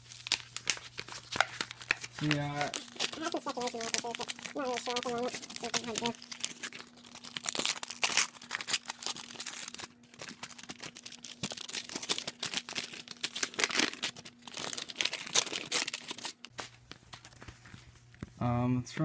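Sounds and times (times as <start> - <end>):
packaging rustling and tearing: 0.0 - 17.9.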